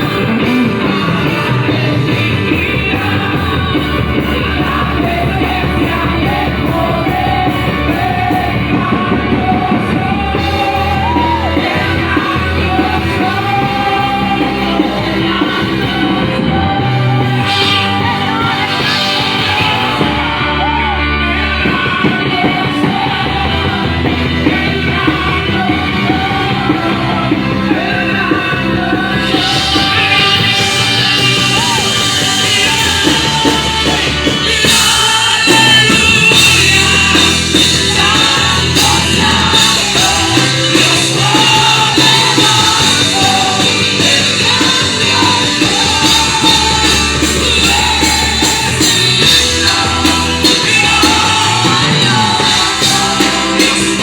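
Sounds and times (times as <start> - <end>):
band playing rock music: 0.0 - 54.0
drum kit: 0.0 - 54.0
person singing: 0.0 - 54.0.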